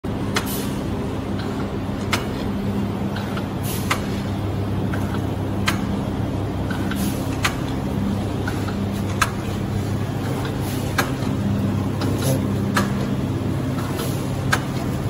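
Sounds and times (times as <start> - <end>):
machine motor hum: 0.0 - 15.0.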